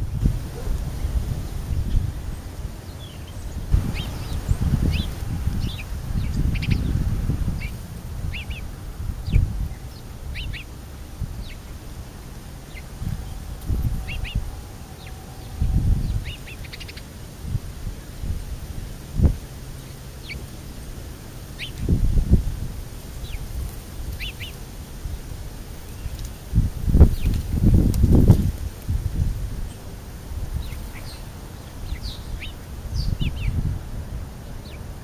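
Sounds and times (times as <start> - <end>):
low uneven rumble: 0.0 - 35.0
small birds chirping: 0.0 - 35.0.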